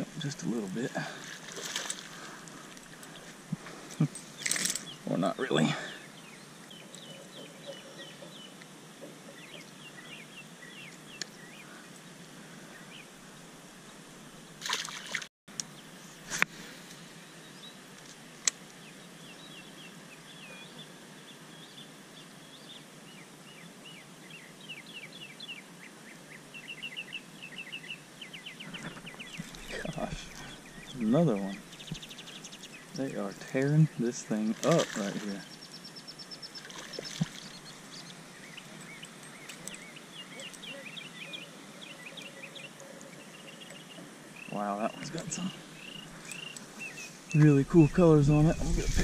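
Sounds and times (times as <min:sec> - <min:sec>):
small birds chirping: 0:00.0 - 0:13.2, 0:18.4 - 0:49.0.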